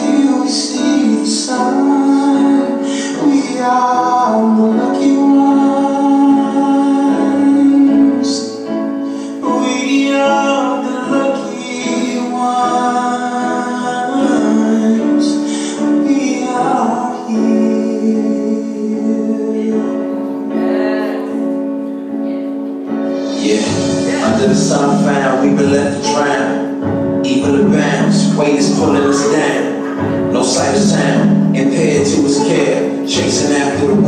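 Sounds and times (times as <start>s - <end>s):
keyboard accompaniment: 0.0s - 34.0s.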